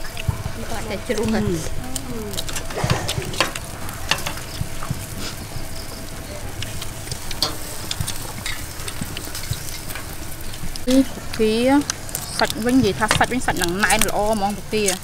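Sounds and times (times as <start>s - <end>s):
clicks and crackles: 0.0s - 15.0s
meat sizzling on a grill: 0.0s - 15.0s.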